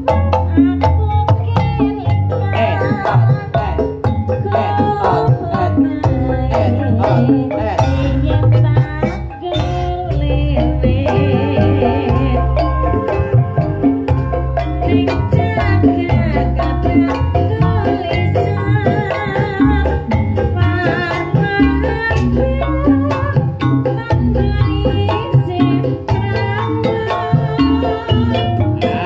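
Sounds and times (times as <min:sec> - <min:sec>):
percussion-led band music: 0:00.0 - 0:29.0
person singing: 0:00.4 - 0:29.0.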